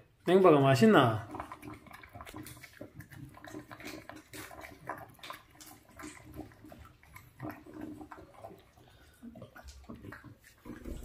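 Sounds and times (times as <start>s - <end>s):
dog chewing and lapping: 0.4s - 11.0s.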